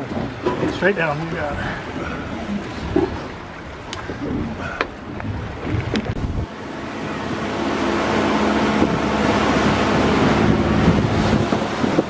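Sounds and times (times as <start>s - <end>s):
boat engine running: 0.0s - 12.0s
water wash: 0.0s - 12.0s
wind noise: 1.4s - 12.0s.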